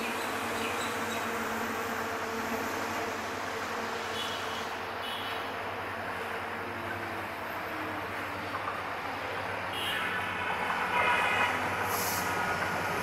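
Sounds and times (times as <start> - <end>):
diesel locomotive engine drone: 0.0 - 13.0
train running noise: 0.0 - 13.0.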